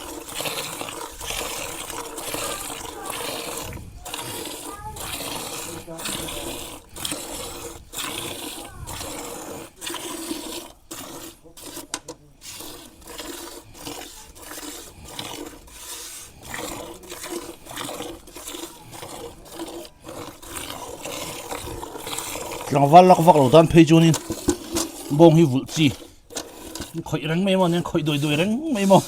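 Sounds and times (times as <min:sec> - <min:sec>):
milk squirting into a pail: 0:00.0 - 0:29.0.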